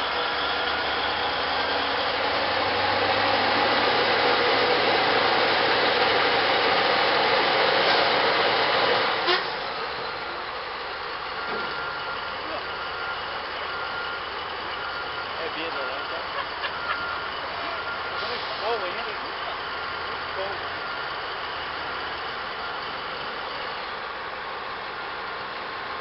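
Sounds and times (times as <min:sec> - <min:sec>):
diesel truck engine under load: 0:00.0 - 0:26.0.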